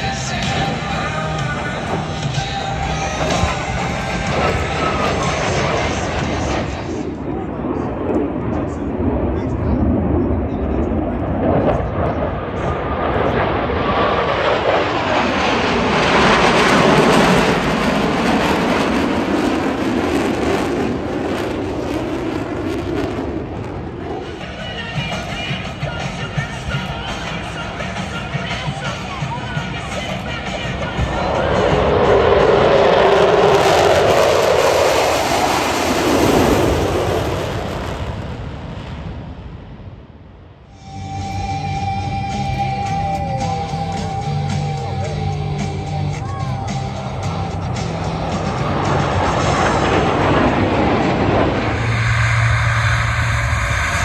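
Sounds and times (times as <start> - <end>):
airplane flying past: 0.0 - 54.0.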